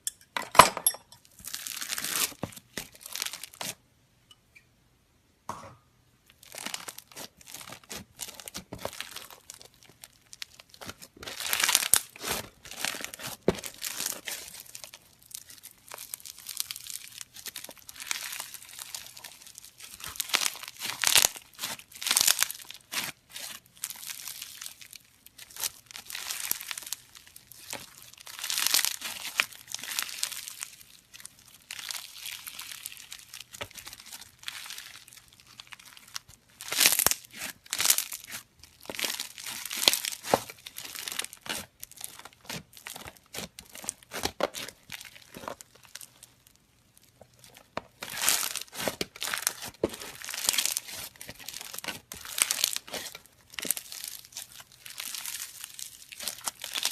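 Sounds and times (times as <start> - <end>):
slime crackling and popping: 1.4 - 3.8, 6.3 - 56.9.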